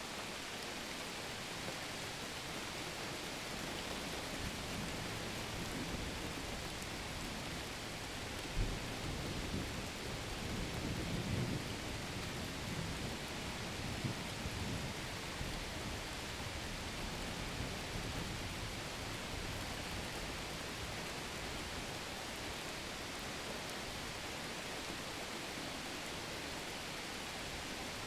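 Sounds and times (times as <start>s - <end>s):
rain hiss: 0.0s - 28.0s.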